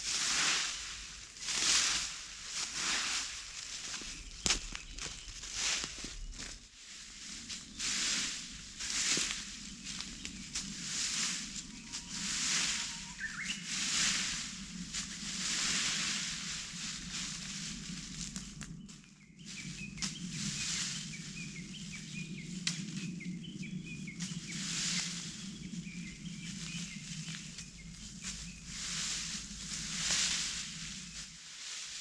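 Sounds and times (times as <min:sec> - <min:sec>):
dry leaves being swept: 0:00.0 - 0:18.6, 0:19.4 - 0:23.0, 0:24.0 - 0:32.0
small birds chirping: 0:00.4 - 0:31.8.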